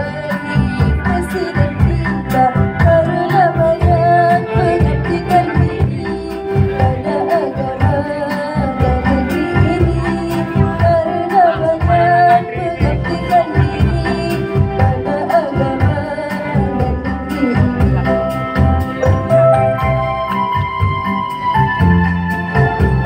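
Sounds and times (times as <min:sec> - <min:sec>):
woman singing into a microphone: 0:00.0 - 0:19.0
backing track with a beat: 0:00.0 - 0:23.0.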